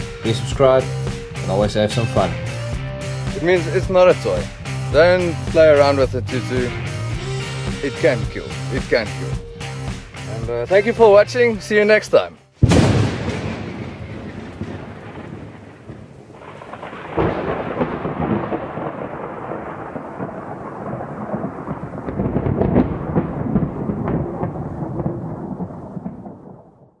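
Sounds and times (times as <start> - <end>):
rolling thunder rumble: 0.0 - 9.4, 12.6 - 27.0
crackling rain-like hiss: 0.0 - 26.9.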